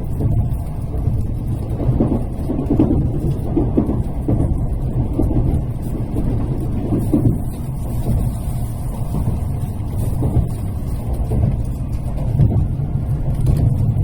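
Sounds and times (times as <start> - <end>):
train rumbling at low speed: 0.0 - 14.0
wheel thuds on track: 0.0 - 14.0.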